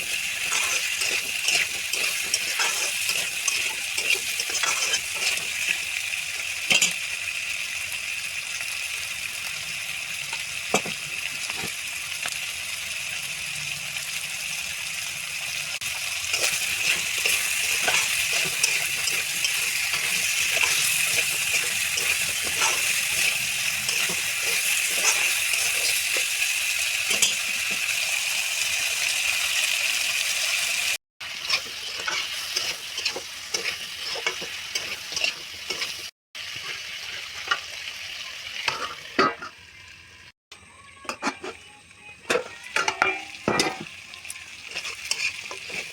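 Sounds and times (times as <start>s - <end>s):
food sizzling in oil: 0.0s - 40.4s, 41.1s - 45.9s.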